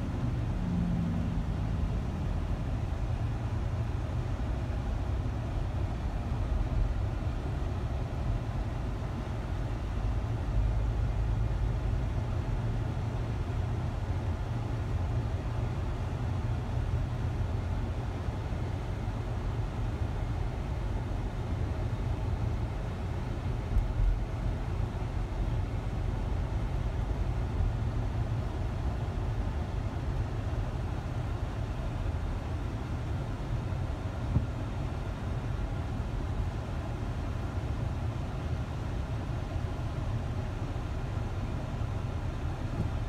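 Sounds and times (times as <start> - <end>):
vehicle road and engine rumble: 0.0 - 43.0.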